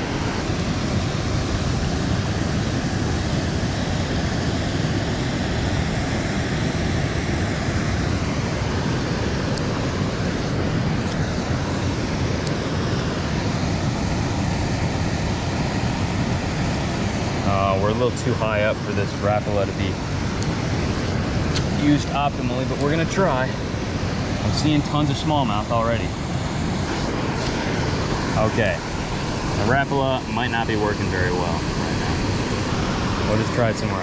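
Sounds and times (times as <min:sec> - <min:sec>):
water rushing over dam: 0:00.0 - 0:34.0.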